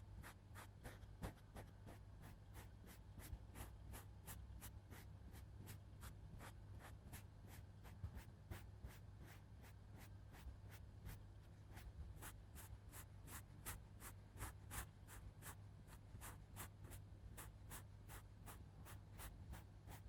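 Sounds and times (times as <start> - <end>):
scratchy makeup tool strokes: 0.2 - 20.0.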